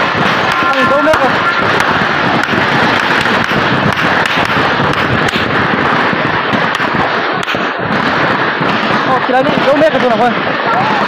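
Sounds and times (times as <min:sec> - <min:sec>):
firecracker bangs and cracks: 0:00.0 - 0:11.0
loud noisy din: 0:00.0 - 0:11.0.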